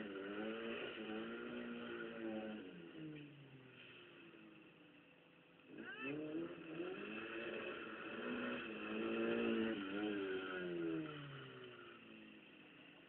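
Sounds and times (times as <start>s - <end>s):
car engine revving: 0.0s - 4.9s, 5.6s - 13.0s.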